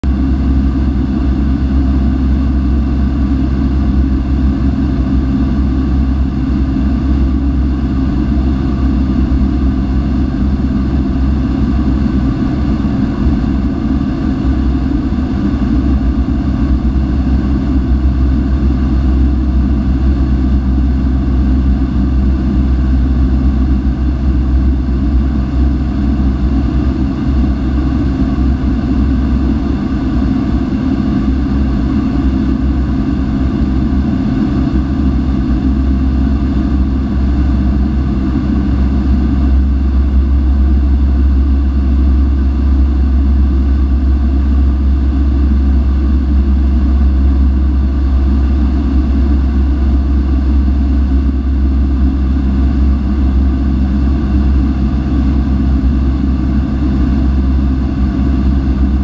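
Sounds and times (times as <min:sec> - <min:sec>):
aircraft engine droning in cabin: 0:00.0 - 0:59.0.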